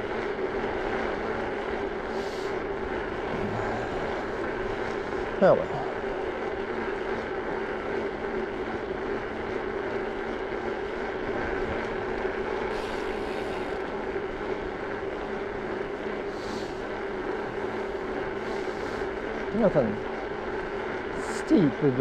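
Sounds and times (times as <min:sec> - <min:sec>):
bicycle tyre hum on asphalt: 0:00.0 - 0:22.0.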